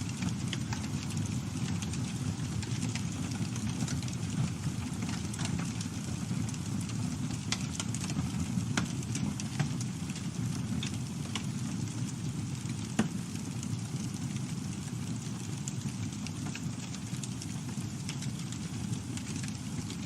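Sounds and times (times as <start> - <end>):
burning wood crackling and popping: 0.0 - 20.0
low rumble of flames: 0.0 - 20.0.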